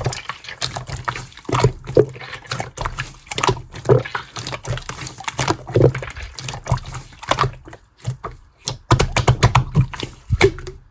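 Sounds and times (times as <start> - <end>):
slime squished by hand: 0.0 - 10.9.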